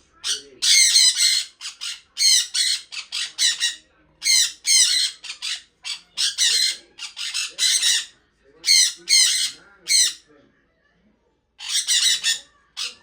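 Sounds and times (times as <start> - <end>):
parrot chirping: 0.2 - 10.2, 11.6 - 13.0.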